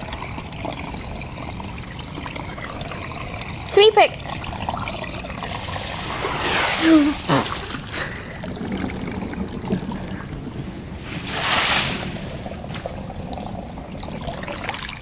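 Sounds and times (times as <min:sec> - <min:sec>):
rain falling: 0:00.0 - 0:15.0
rush of water: 0:00.0 - 0:15.0
water trickling over ground: 0:00.0 - 0:15.0.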